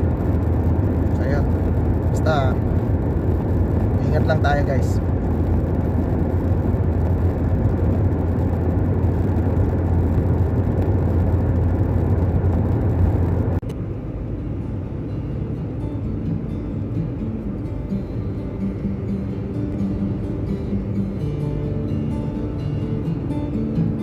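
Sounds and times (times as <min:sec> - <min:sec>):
car road and engine drone: 0:00.0 - 0:24.0
quiet steady noise: 0:00.0 - 0:24.0.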